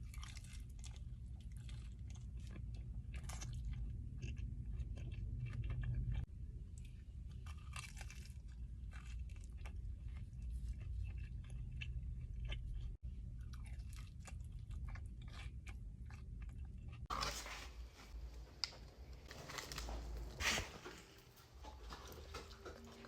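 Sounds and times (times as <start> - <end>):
chewing crunchy food: 0.0 - 23.0
low steady hum: 0.0 - 23.0.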